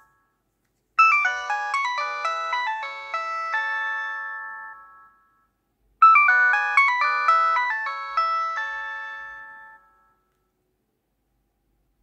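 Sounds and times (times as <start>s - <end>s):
mobile phone ringtone melody: 0.0s - 0.4s, 1.0s - 10.3s.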